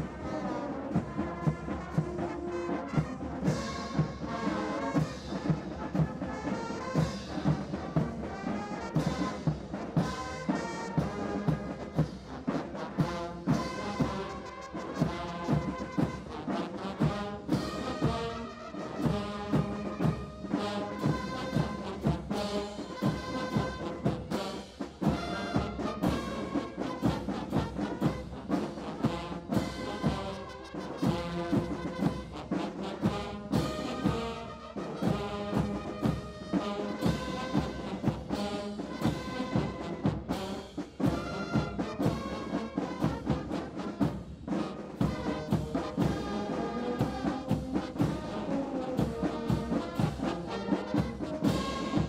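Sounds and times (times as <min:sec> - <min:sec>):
military band playing a march: 0:00.0 - 0:52.0.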